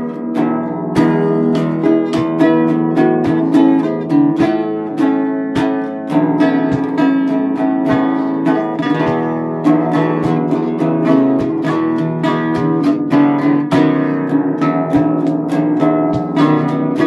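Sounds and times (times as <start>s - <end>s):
guitar strummed chords: 0.0s - 17.0s.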